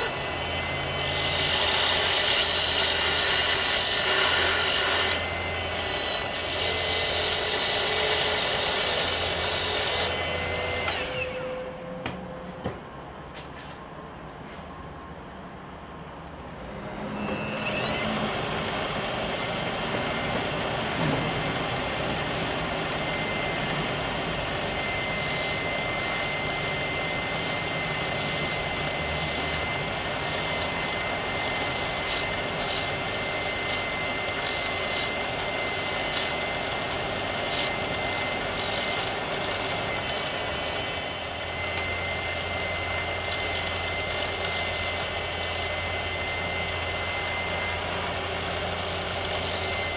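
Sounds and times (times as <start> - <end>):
wood lathe whining: 0.0 - 12.0, 17.4 - 49.9.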